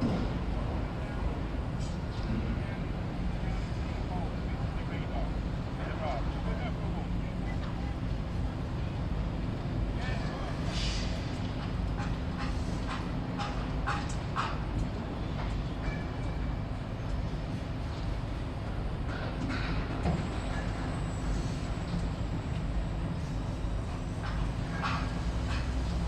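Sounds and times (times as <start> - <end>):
heavy machinery engine rumbling: 0.0 - 26.0.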